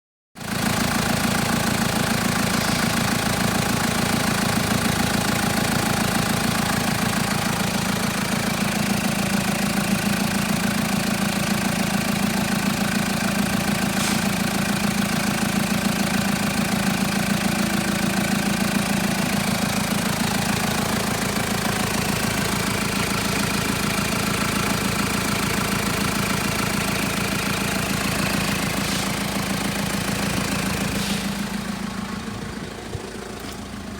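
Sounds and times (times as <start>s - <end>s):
diesel engine idling: 0.4s - 33.9s.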